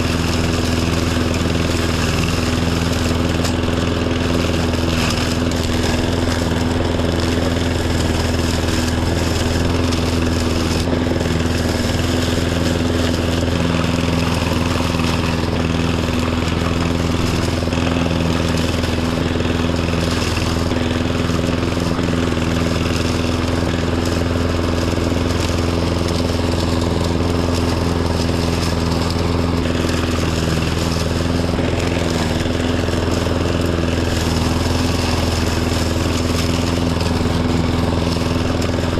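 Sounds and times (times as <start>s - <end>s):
lawn tractor engine droning: 0.0s - 38.9s.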